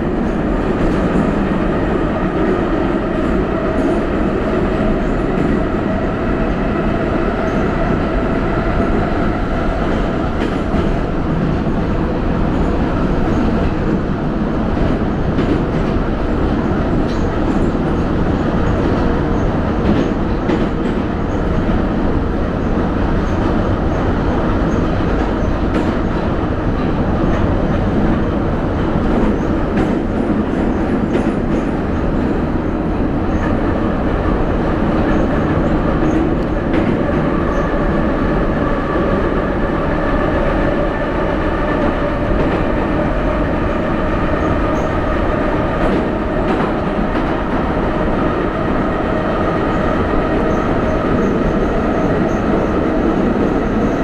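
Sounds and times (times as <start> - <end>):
subway train rumbling in tunnel: 0.0 - 54.0.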